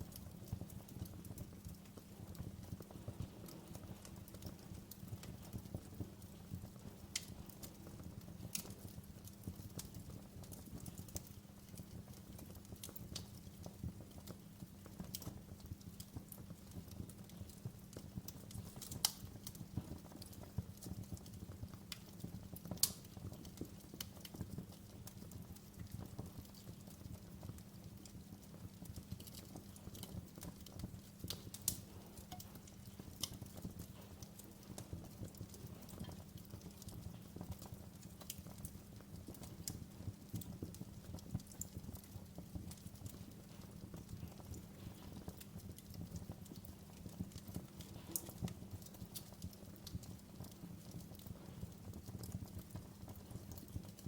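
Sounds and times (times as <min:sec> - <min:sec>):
flames rumbling: 0:00.0 - 0:54.0
wood fire crackling: 0:00.0 - 0:54.0.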